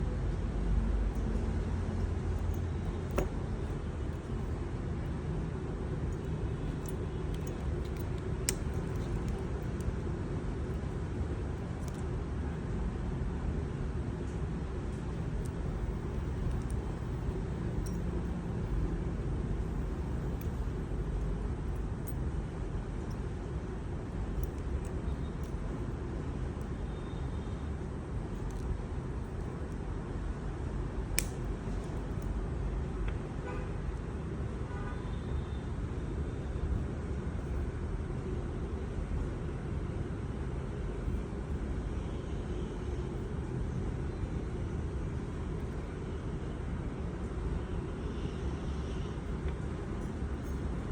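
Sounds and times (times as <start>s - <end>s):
road traffic rumble: 0.0s - 50.9s.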